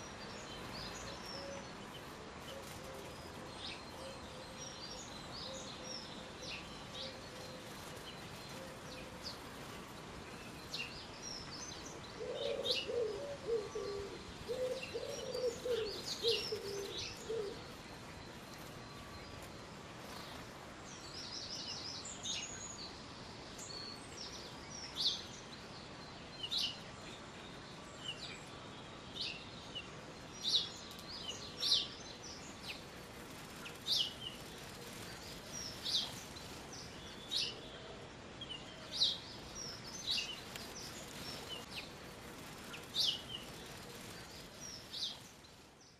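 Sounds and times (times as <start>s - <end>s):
birds chirping: 0.0s - 23.0s, 23.6s - 45.9s.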